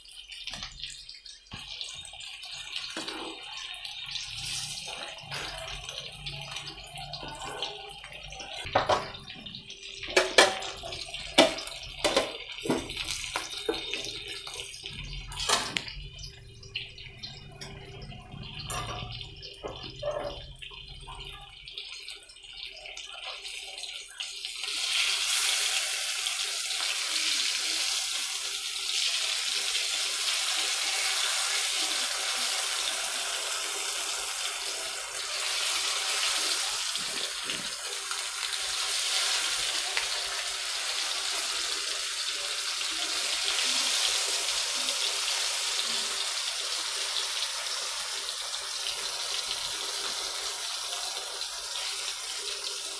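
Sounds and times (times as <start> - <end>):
fish sizzling in oil: 0.0 - 52.9.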